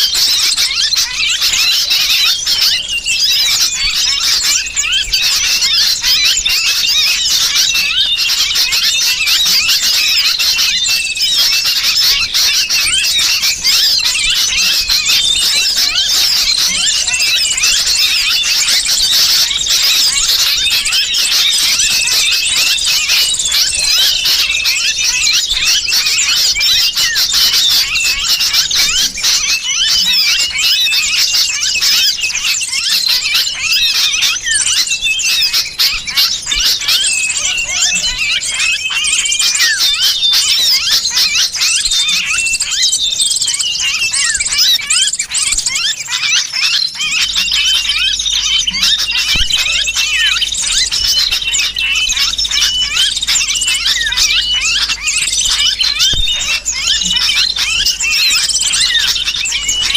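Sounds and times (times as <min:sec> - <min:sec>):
bird distress calls: 0:00.0 - 0:59.9
small birds chirping chorus: 0:00.0 - 0:59.9.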